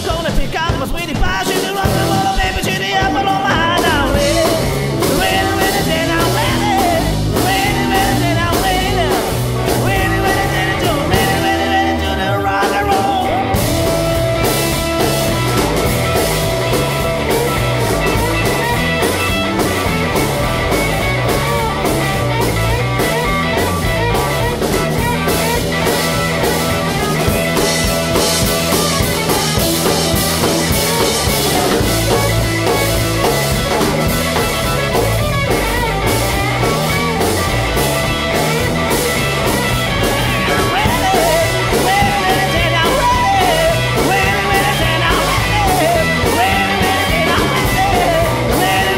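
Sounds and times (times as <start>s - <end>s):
rock and roll band playing: 0.0s - 48.9s.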